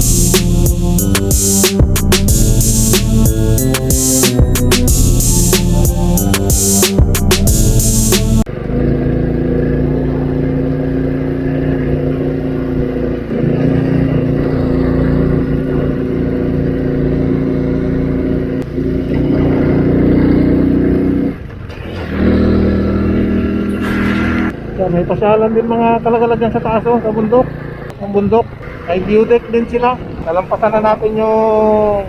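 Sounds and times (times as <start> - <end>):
motorcycle engine running: 0.0 - 31.8.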